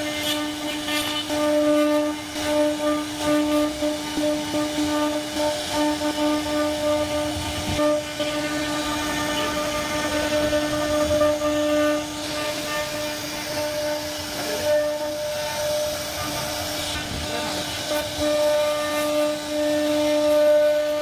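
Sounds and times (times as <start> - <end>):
bit cutting wood: 0.0 - 21.0
router spindle whine: 0.0 - 21.0.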